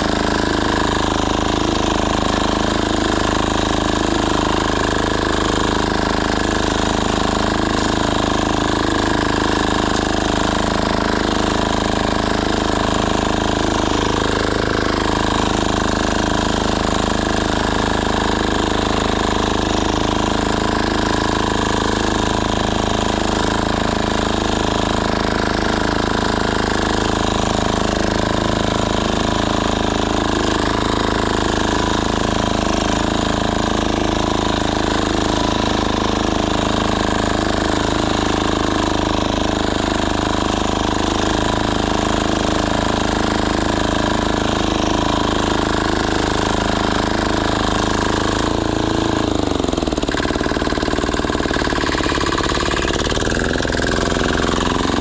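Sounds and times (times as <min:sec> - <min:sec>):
diesel tiller engine running: 0:00.0 - 0:55.0.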